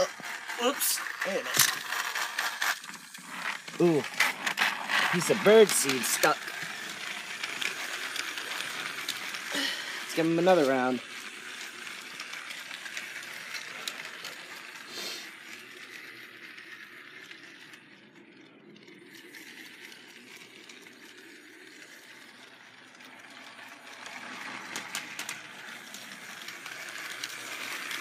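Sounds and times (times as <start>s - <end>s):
light wheel clatter: 0.0s - 28.0s
toy train motor whirring: 0.0s - 28.0s.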